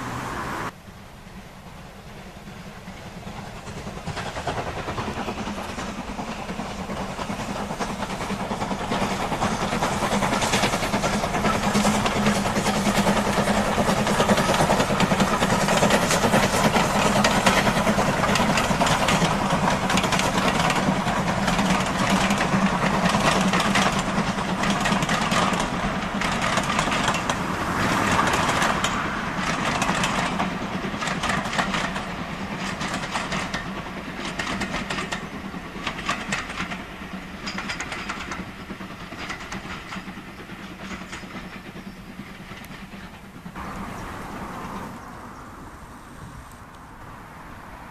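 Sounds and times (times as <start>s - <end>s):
steam locomotive working: 0.0s - 47.9s
train wheels clicking over rail joints: 2.0s - 47.0s.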